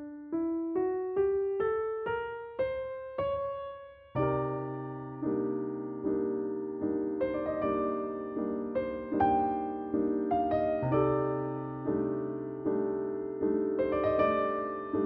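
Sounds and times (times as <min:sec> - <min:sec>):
soft slow piano music: 0:00.0 - 0:15.0.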